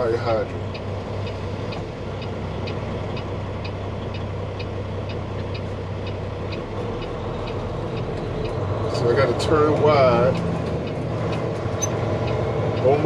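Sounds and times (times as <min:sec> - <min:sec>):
truck engine running: 0:00.0 - 0:13.0
turn signal clicking: 0:00.6 - 0:13.0.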